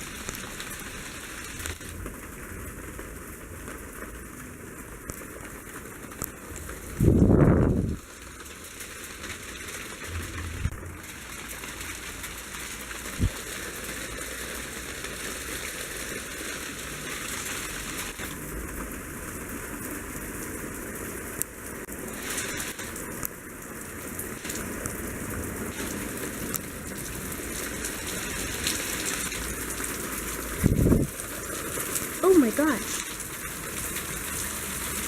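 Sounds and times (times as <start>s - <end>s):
hailstones ticking: 0.0s - 35.0s
rain hissing: 0.0s - 35.0s.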